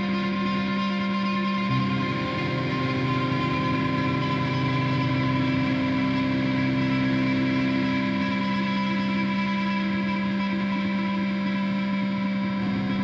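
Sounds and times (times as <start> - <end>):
electric guitar chord ringing: 1.7 - 13.0.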